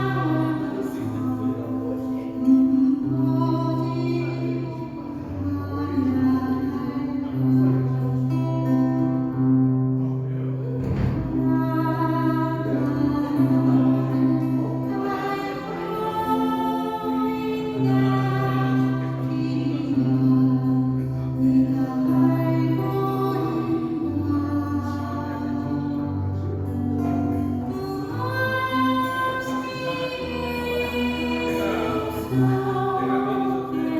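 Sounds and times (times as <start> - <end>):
woman singing slow song: 0.0 - 33.9.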